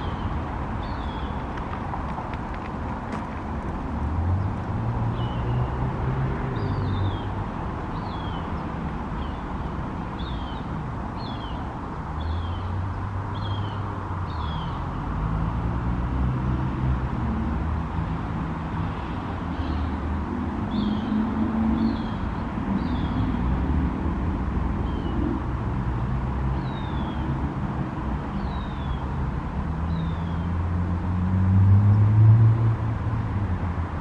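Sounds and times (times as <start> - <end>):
low traffic rumble: 0.0 - 34.0.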